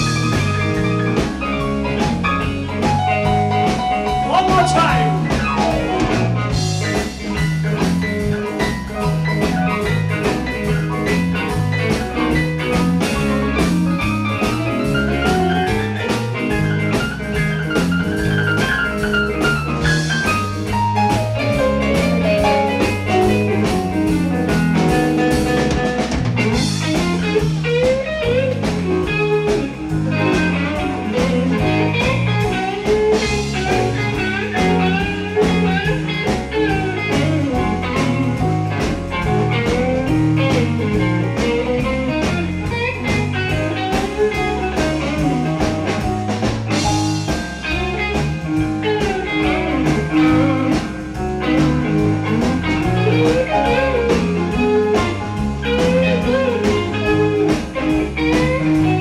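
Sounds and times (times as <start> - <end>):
bass guitar: 0.0 - 59.0
drum kit: 0.0 - 59.0
electric guitar lead: 0.0 - 59.0
keyboard: 0.0 - 59.0.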